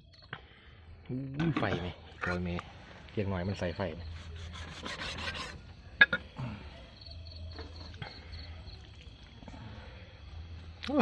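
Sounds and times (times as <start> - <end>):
faint insect chirping: 0.0 - 11.0.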